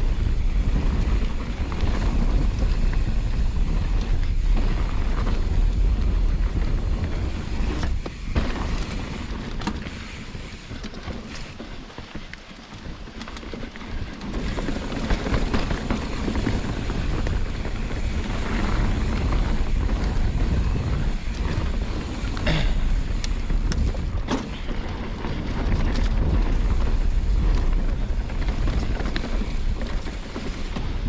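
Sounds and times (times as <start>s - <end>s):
wind buffeting microphone: 0.0s - 11.6s, 12.7s - 31.0s
bike tyres rolling on trail: 0.0s - 31.0s.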